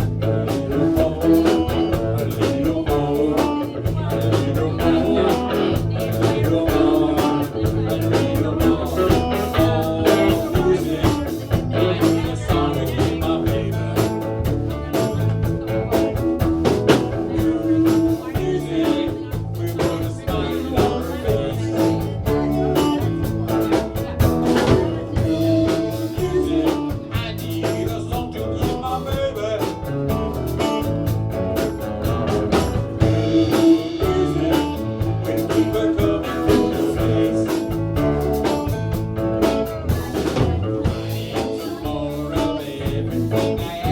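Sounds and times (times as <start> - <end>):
drum kit beat: 0.0 - 43.9
guitar: 0.0 - 43.9.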